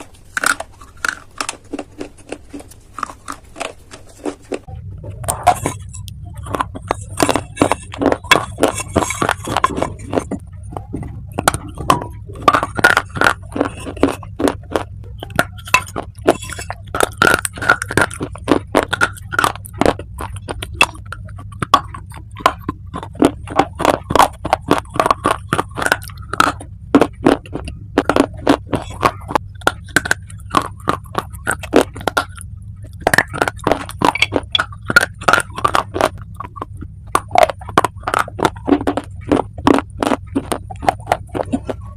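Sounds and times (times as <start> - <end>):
dry clay crunching: 0.0 - 41.9
steady low hum: 0.0 - 41.9.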